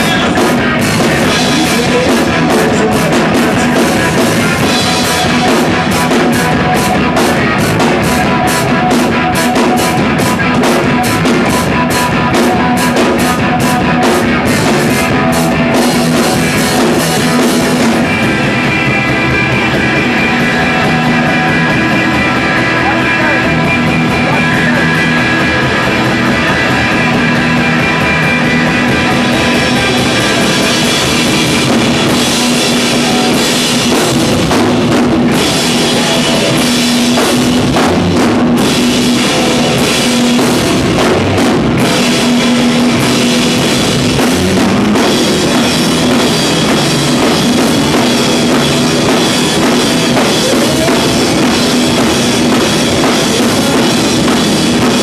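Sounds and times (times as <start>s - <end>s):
drum kit: 0.0s - 55.0s
live rock band: 0.0s - 55.0s.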